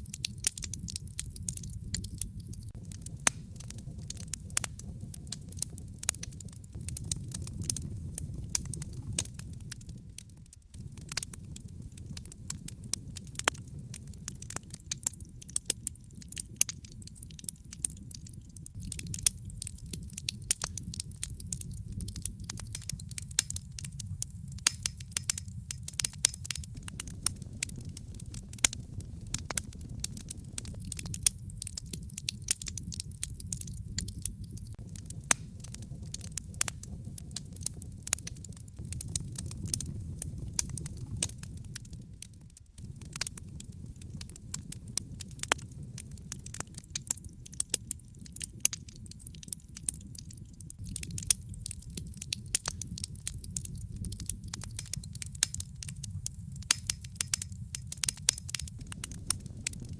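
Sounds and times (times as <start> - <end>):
logs crackling and popping: 0.0 - 59.9
low rumble of flames: 0.0 - 59.9.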